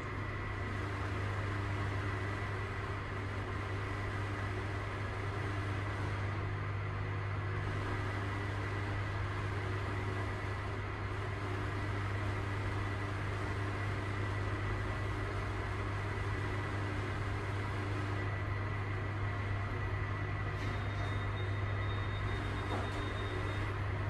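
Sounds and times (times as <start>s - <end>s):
lift humming and whining: 0.0s - 24.0s.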